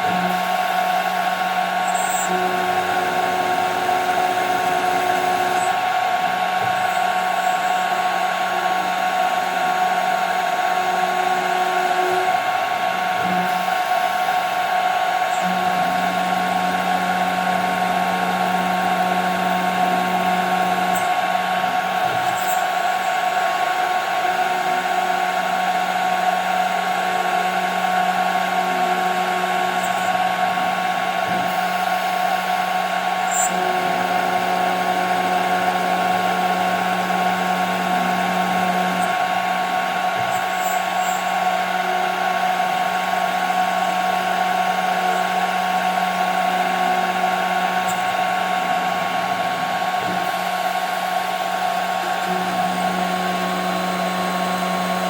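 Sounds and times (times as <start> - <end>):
lower machine hum: 0.0 - 55.0
router cutting plastic: 0.0 - 55.0
router spindle high whine: 0.0 - 55.0.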